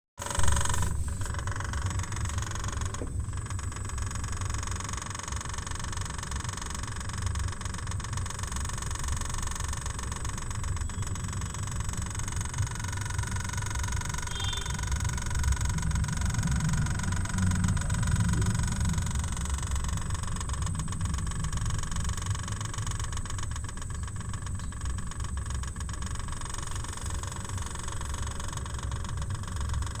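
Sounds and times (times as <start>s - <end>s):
faint high whine: 0.2s - 4.6s, 9.2s - 30.0s
refrigerator compressor humming: 0.2s - 30.0s.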